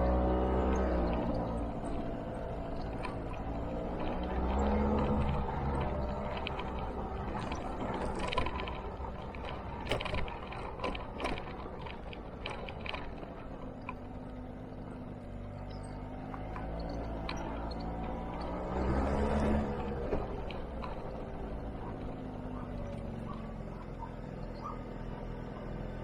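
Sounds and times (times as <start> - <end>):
scooter engine running: 0.0 - 26.0.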